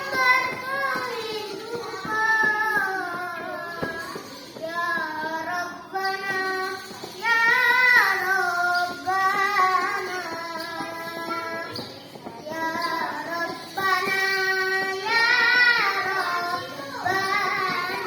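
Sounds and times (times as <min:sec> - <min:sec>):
child singing: 0:00.0 - 0:18.0.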